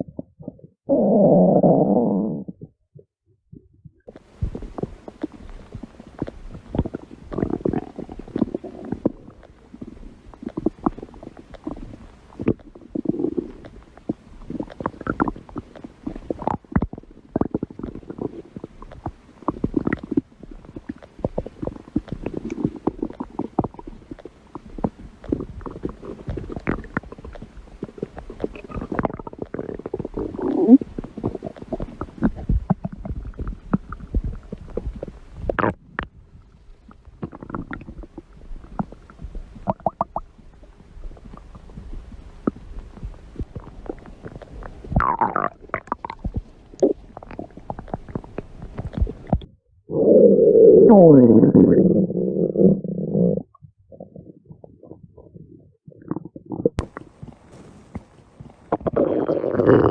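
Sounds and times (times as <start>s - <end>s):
stomach growling: 0.0s - 59.9s.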